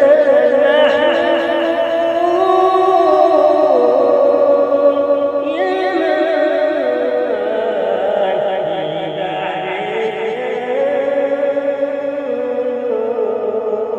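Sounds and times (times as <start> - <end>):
voices chanting unaccompanied: 0.0 - 11.8
higher voice singing: 0.0 - 13.9.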